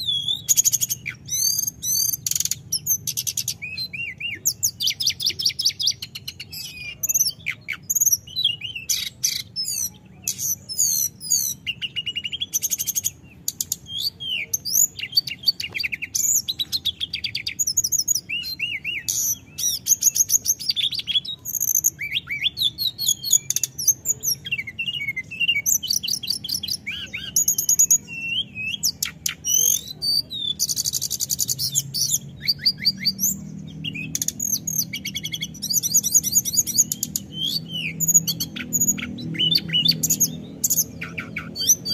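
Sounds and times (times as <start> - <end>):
bird singing trills and whistles: 0.0 - 41.9.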